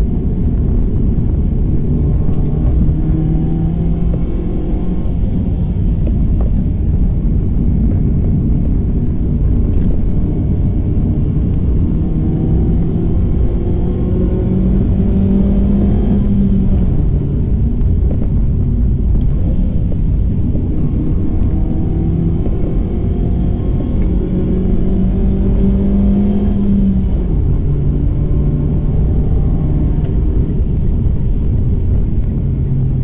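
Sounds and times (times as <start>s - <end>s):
tyre and road rumble: 0.0s - 33.0s.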